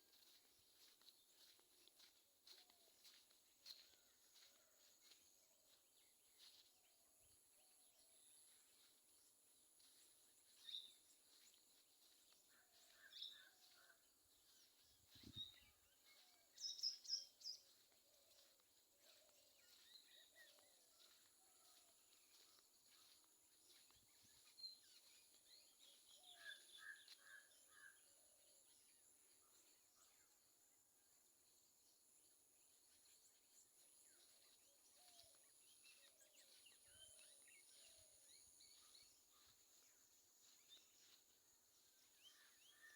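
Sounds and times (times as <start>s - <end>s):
faint birdsong: 0.0s - 42.9s.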